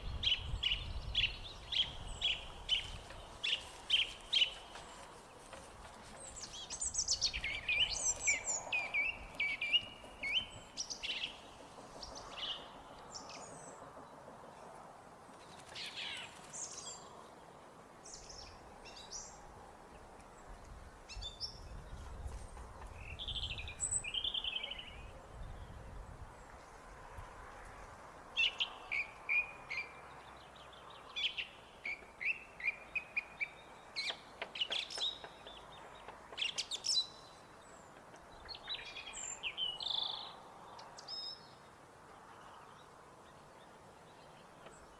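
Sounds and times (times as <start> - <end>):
song thrush singing: 0.0 - 13.8, 18.0 - 26.1, 28.4 - 44.9.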